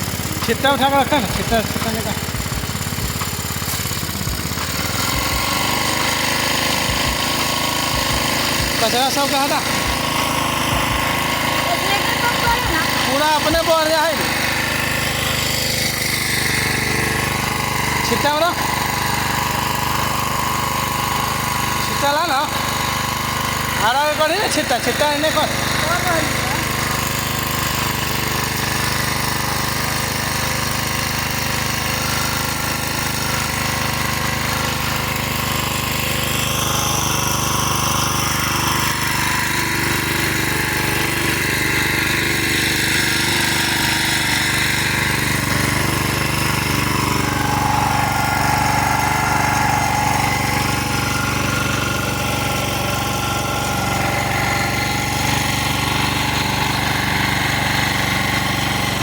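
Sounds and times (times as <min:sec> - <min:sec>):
water pump engine thumping: 0:00.0 - 0:59.0.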